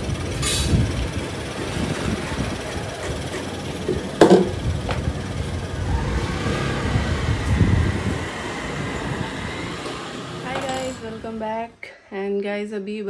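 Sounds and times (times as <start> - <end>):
scooter engine running: 0.0 - 11.7.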